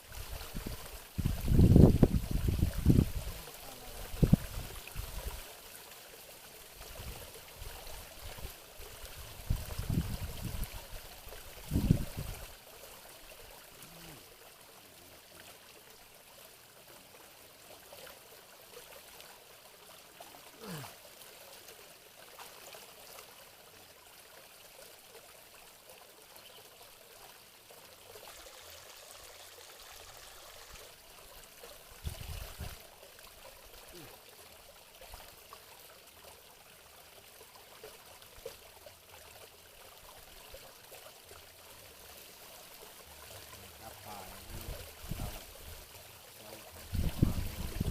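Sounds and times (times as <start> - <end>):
water trickling: 0.0 - 47.9.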